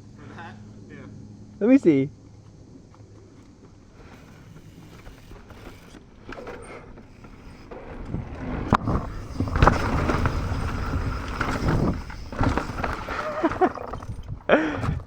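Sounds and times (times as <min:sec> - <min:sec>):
bike rolling over dirt: 0:02.5 - 0:15.0.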